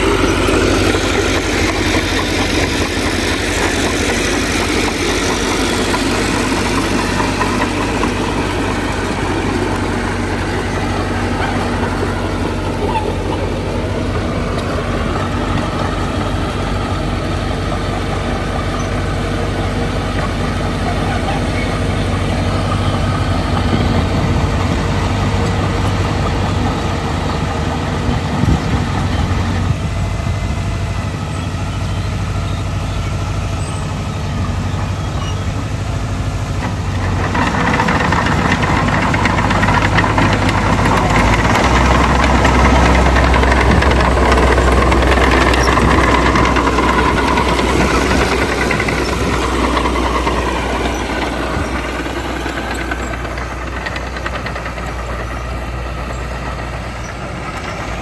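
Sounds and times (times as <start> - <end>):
diesel machinery running: 0.0 - 58.0.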